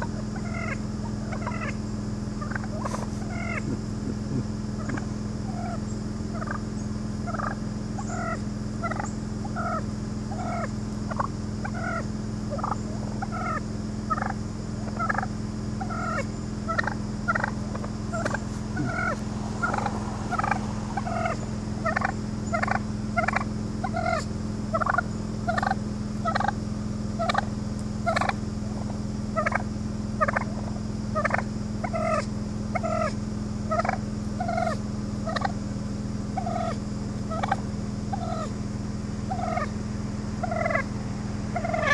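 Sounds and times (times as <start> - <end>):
wild turkeys calling: 0.0 - 35.7, 36.3 - 41.9
steady low hum: 0.0 - 41.9.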